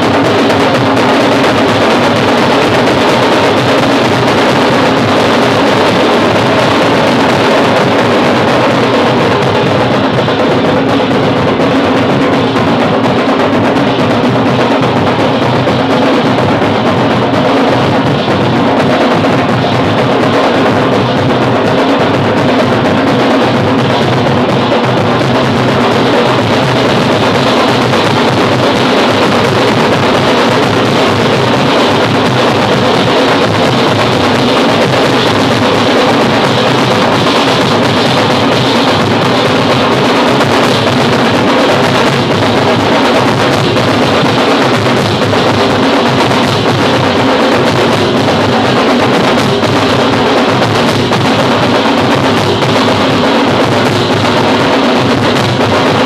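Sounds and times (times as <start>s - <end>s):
street drumming ensemble: 0.0s - 56.0s.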